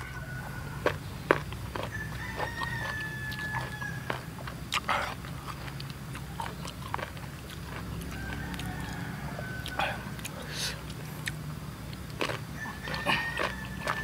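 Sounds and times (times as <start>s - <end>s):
crunching and chewing mango: 0.0s - 14.0s.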